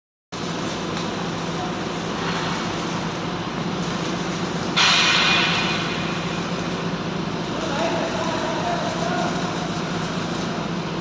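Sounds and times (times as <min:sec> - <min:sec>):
mechanical rumble with hum: 0:00.4 - 0:11.0.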